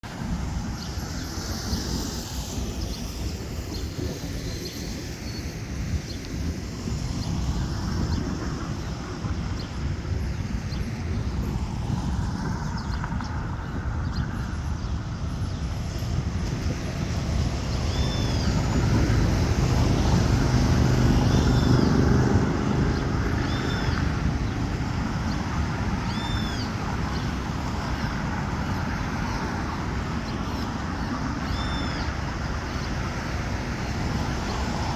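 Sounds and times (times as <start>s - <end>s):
jet engine rumble: 0.0s - 34.9s.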